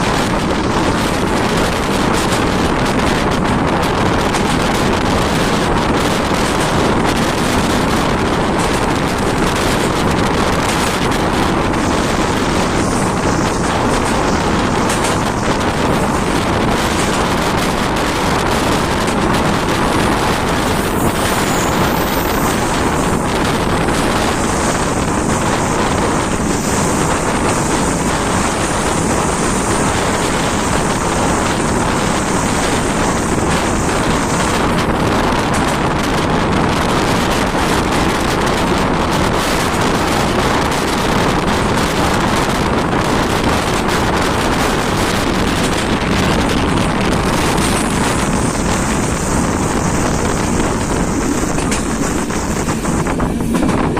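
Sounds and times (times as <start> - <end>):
train wheels on rails: 0.0 - 53.9
wind buffeting microphone: 0.0 - 53.9.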